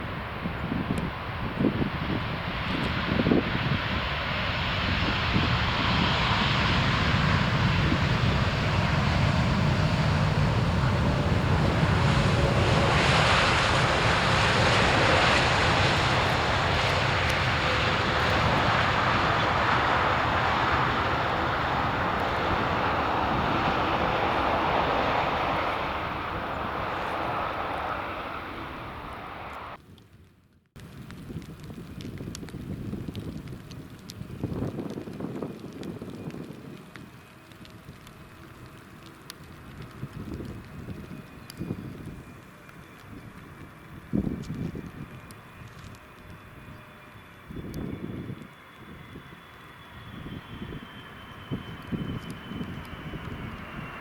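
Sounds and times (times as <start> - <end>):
jet plane landing: 0.0 - 29.8, 30.9 - 54.0.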